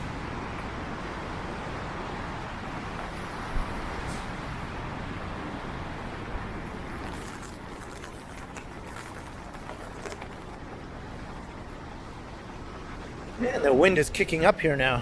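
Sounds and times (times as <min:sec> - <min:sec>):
road traffic on wet streets: 0:00.0 - 0:13.4
rain: 0:00.0 - 0:13.9.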